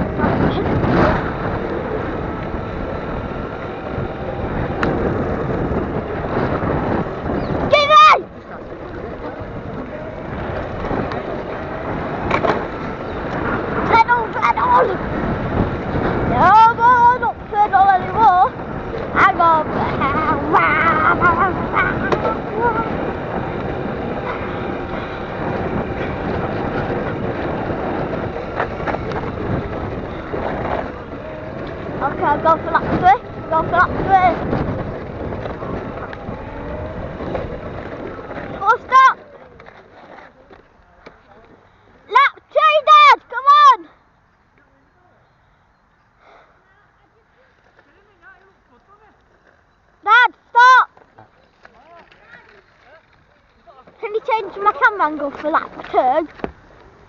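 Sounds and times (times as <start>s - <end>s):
wind buffeting microphone: 0.0s - 44.1s, 45.1s - 57.0s
tyres on dirt: 0.0s - 57.0s.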